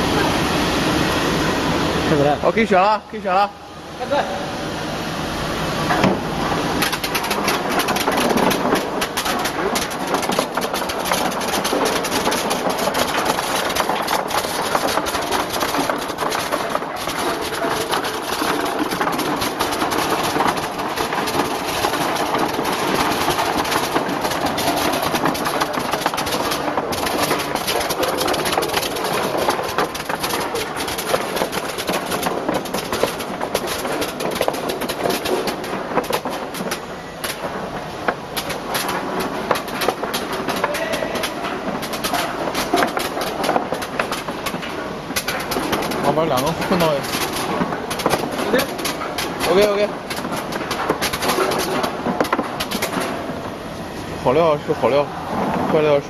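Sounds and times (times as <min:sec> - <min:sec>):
sorting machine rushing: 0:04.8 - 0:56.0
dense irregular clicking: 0:05.9 - 0:53.6.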